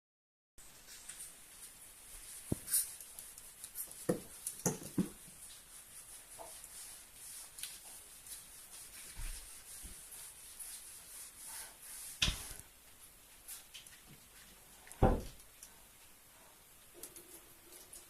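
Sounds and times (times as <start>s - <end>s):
faint steady hiss: 0.6s - 18.0s.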